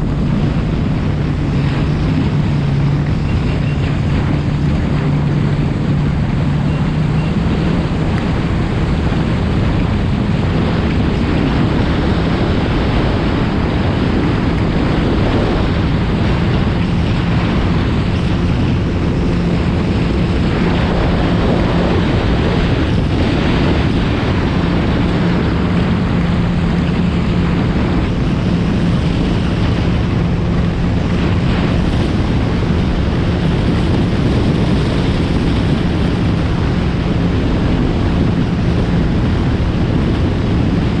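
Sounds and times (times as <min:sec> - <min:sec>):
jet ski engine running: 0:00.0 - 0:41.0
water spray and hull noise: 0:00.0 - 0:41.0
wind rushing over microphone: 0:00.0 - 0:41.0.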